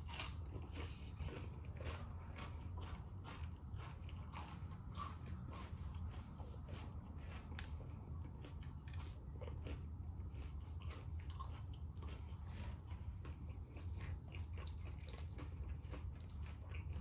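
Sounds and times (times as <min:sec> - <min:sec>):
crunchy fried chicken chewing: 0:00.0 - 0:17.0
steady low hum: 0:00.0 - 0:17.0.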